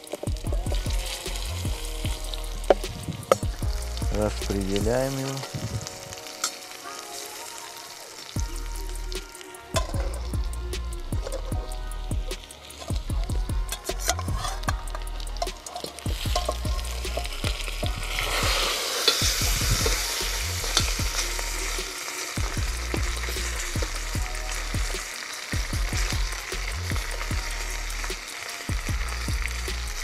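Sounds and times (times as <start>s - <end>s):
meat sizzling in oil: 0.0s - 30.0s.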